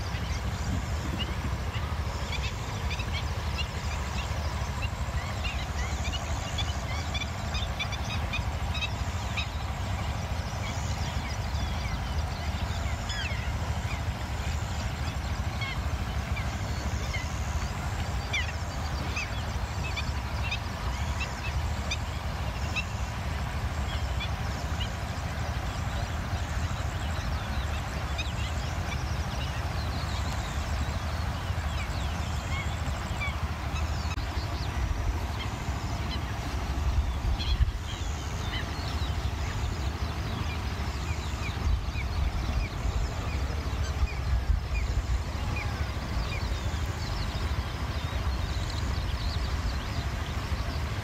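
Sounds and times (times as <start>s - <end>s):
birds chirping: 0.0s - 51.0s
steady low rumble: 0.0s - 51.0s.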